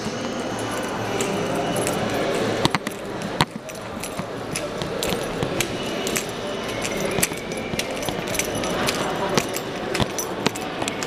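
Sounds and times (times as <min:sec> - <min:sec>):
indistinct chatter of shoppers: 0:00.0 - 0:11.0
light jangling clicks and clinks: 0:00.0 - 0:11.0.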